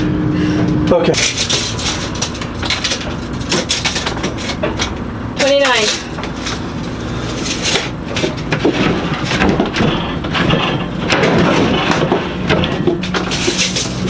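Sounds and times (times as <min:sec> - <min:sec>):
appliance knocking and scraping: 0:00.0 - 0:14.0
low steady hum: 0:00.0 - 0:14.0.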